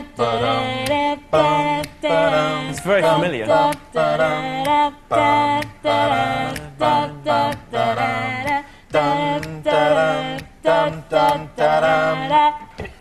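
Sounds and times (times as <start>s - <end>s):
person singing a cappella: 0.0s - 13.0s.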